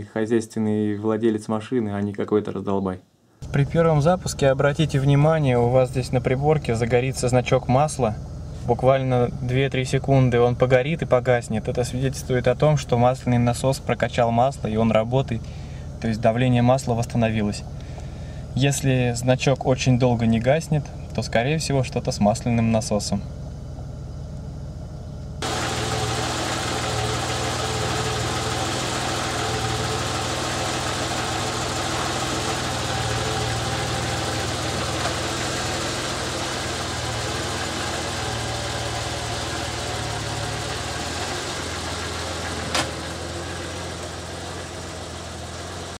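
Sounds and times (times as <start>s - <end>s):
car engine idling: 3.4s - 19.2s, 22.5s - 46.0s.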